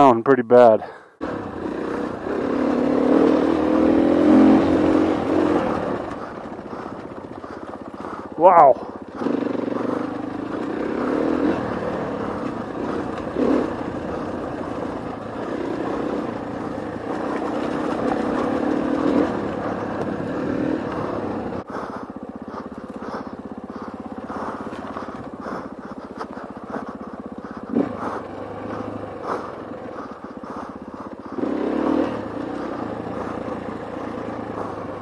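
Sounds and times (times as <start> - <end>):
dirt bike engine revving: 1.2 - 35.0.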